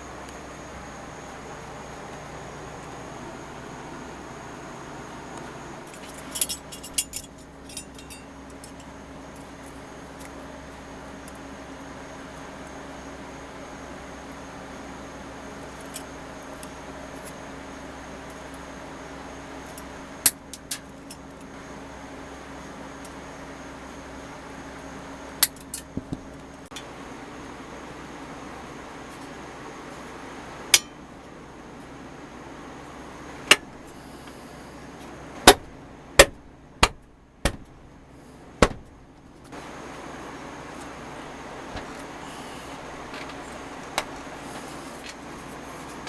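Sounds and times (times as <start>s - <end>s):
workshop hum: 0.0s - 46.0s.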